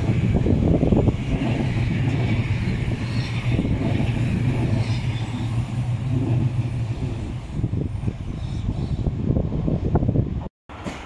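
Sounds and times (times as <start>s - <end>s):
train passing: 0.0s - 11.0s
wheels rumbling and hissing on rail: 0.0s - 11.0s.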